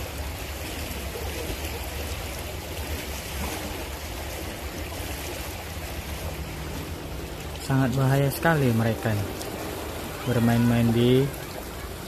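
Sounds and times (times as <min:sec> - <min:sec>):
water rushing in a channel: 0:00.0 - 0:12.0.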